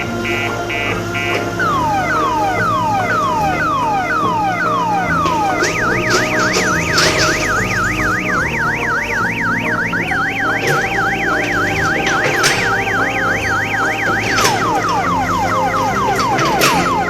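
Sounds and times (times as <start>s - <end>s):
electronic siren warbling: 0.0s - 17.0s
falling electronic chirps: 0.0s - 17.0s
music: 0.0s - 17.0s.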